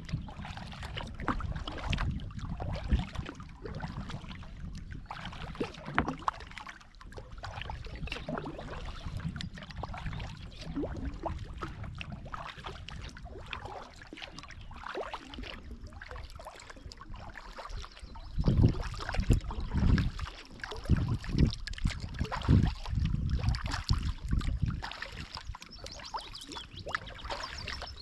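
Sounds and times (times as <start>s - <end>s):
paddle blades splashing: 0.0s - 28.0s
water lapping at hull: 0.0s - 28.0s.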